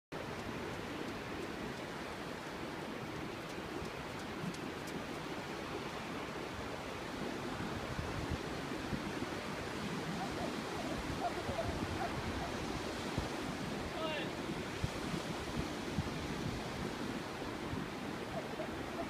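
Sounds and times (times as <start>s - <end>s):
wind: 0.1s - 19.0s
surf: 3.3s - 19.0s.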